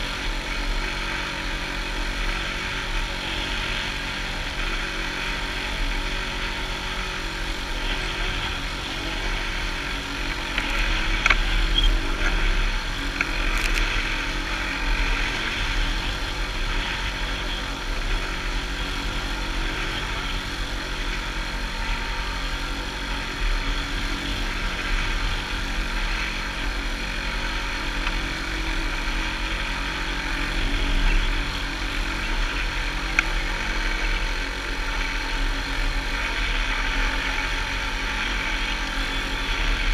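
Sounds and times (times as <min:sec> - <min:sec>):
choppy water rushing along hull: 0:00.0 - 0:39.9.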